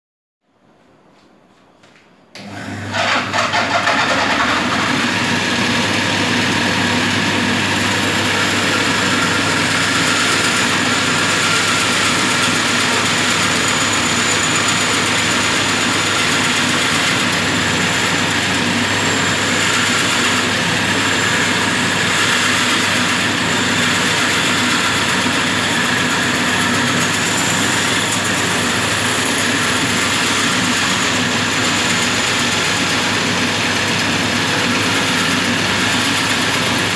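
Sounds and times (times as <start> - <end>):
bandsaw running: 2.4 - 36.9
bandsaw cutting wooden board: 2.9 - 36.9.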